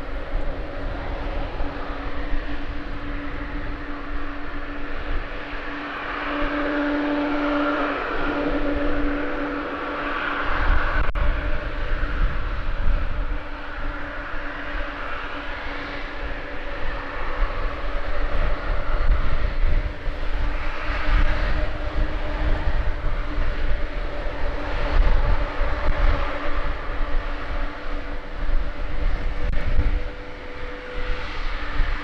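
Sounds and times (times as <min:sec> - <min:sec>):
jet engines droning: 0:00.0 - 0:32.0
wind buffeting microphone: 0:00.0 - 0:32.0.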